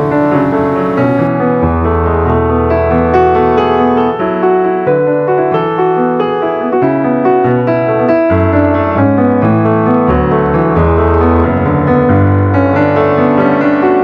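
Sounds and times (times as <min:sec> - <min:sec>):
piano piece: 0:00.0 - 0:14.0.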